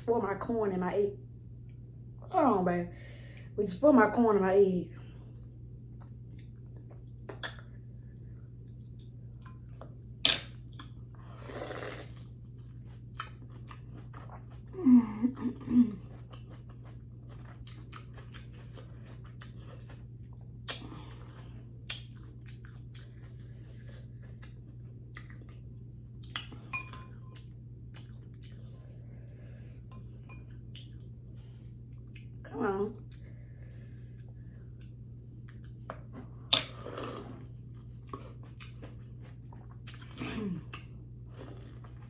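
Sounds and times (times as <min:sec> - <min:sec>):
person chewing food: 0:05.3 - 0:14.8, 0:15.8 - 0:31.2, 0:31.9 - 0:32.4, 0:33.0 - 0:42.0.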